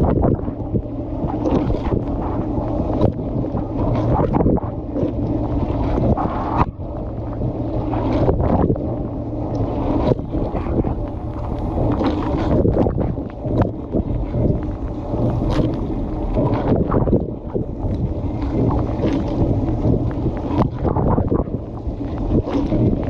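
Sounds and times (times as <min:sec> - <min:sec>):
wash pump hum: 0:00.0 - 0:23.0.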